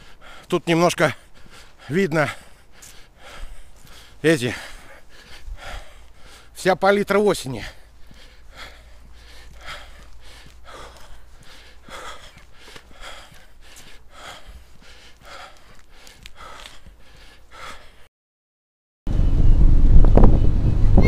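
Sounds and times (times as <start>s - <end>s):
man breathing heavily: 0.0s - 18.1s.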